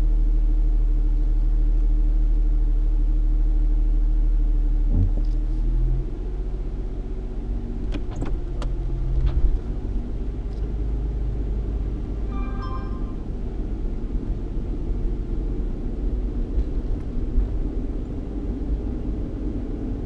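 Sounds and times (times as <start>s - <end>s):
car engine hum: 0.0s - 20.0s
road rumble: 0.0s - 20.0s.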